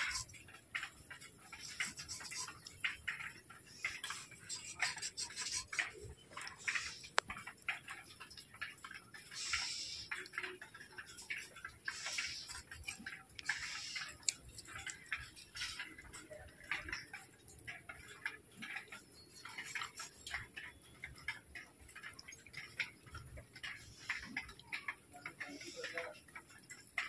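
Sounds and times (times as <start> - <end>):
scraping and clicking strokes: 0.0 - 27.0.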